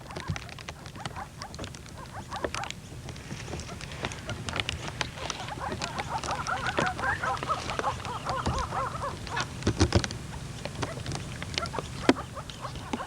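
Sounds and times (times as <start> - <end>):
short arching animal calls: 0.0 - 13.0.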